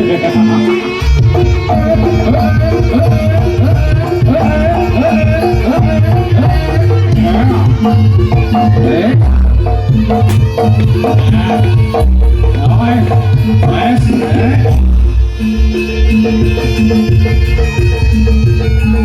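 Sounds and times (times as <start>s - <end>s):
hand drums playing dense rhythm: 0.0s - 19.0s
wavering bending melody: 0.0s - 19.0s.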